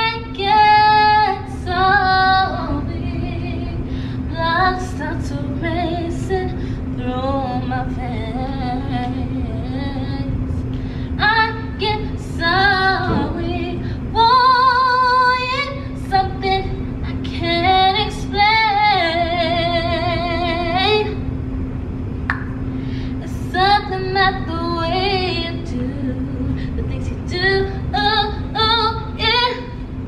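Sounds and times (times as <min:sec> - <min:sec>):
woman singing: 0:00.0 - 0:10.4, 0:11.2 - 0:21.2, 0:23.2 - 0:29.8.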